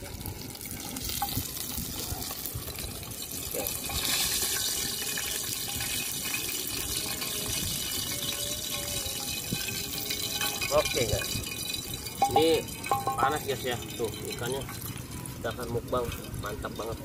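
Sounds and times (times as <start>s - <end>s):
oil sizzling in frying pan: 0.0s - 17.0s.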